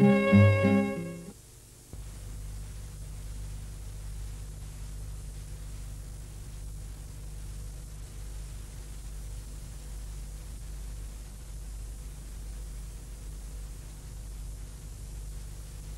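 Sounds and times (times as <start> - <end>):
low electrical hum: 0.0 - 15.9
steady hiss: 0.0 - 15.9.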